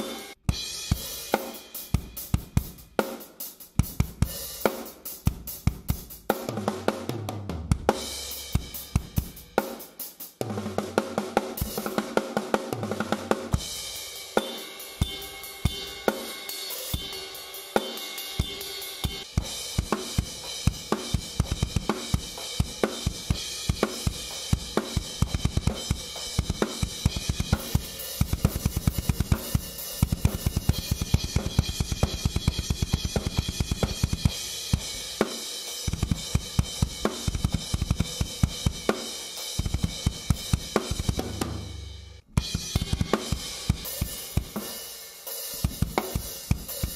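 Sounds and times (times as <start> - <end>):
drum kit groove: 0.0 - 46.9.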